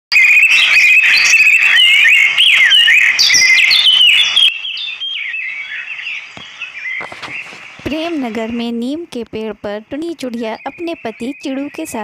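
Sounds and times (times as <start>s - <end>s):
birds chirping and whistling: 0.1s - 8.7s, 10.0s - 12.0s.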